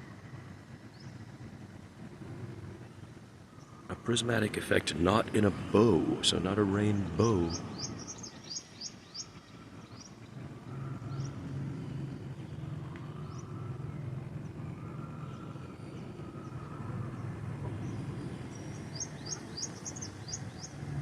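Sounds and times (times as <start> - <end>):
city traffic hum: 0.0 - 21.0
bird chirping: 3.6 - 21.0.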